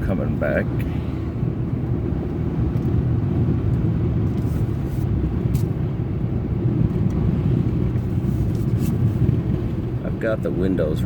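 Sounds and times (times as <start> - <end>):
car road noise from cabin: 0.0 - 11.0.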